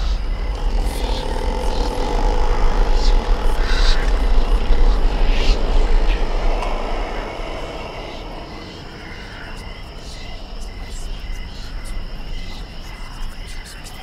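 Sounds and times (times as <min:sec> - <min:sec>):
deep rumbling drone: 0:00.0 - 0:14.0.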